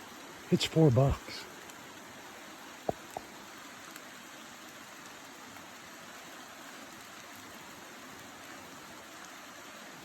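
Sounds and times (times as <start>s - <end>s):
light rain falling: 0.0s - 10.0s.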